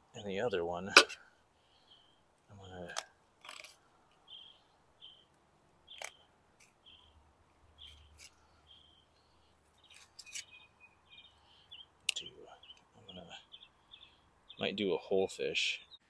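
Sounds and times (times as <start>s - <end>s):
songbird chirping: 0.2s - 16.0s.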